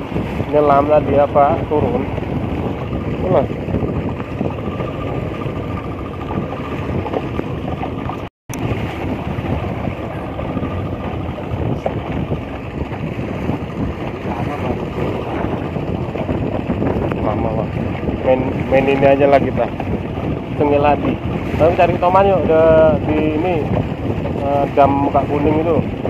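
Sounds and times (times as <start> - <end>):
outboard motor running: 0.0 - 26.0
water washing past hull: 0.0 - 26.0
wind buffeting microphone: 0.0 - 26.0.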